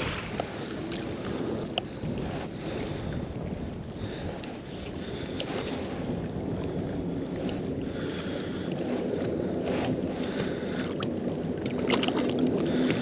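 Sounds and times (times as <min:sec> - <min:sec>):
lapping river water: 0:00.0 - 0:13.0
wind buffeting microphone: 0:00.0 - 0:13.0.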